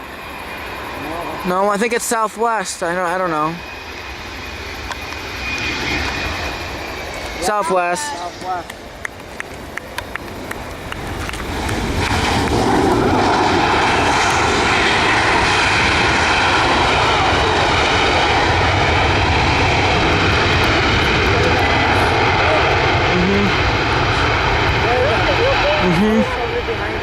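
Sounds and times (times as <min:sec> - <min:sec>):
jet engines passing close by: 0:00.0 - 0:27.0.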